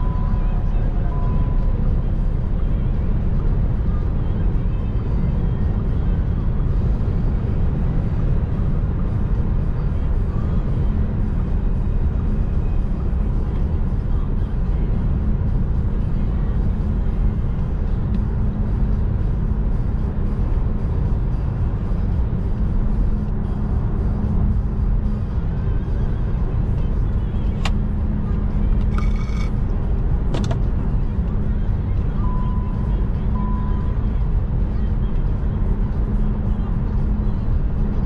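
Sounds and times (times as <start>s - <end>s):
tyre and wind roar in car: 0.0s - 38.0s.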